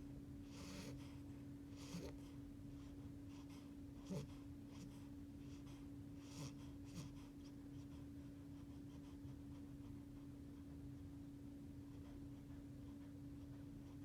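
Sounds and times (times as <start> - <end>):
faint hum: 0.0 - 14.0
puppy snoring softly: 0.4 - 14.0.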